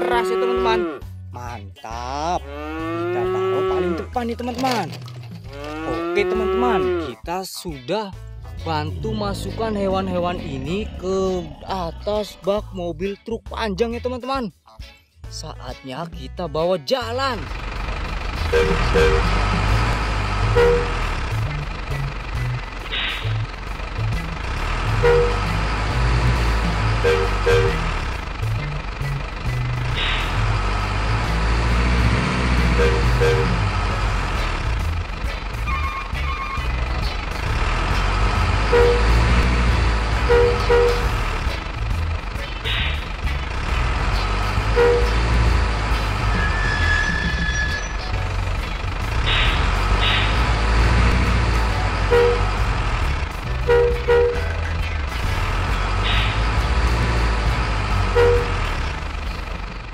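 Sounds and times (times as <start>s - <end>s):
truck engine sound: 0.0s - 7.2s, 8.1s - 13.0s, 17.1s - 59.9s.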